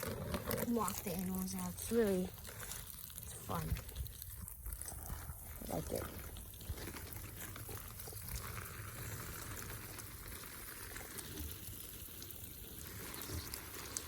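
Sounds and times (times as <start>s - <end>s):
water running and pouring: 0.0s - 14.0s.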